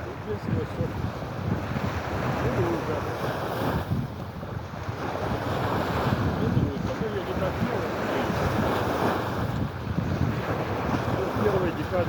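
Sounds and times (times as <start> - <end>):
small waves on shore: 0.0 - 12.0
wind buffeting microphone: 0.0 - 12.0.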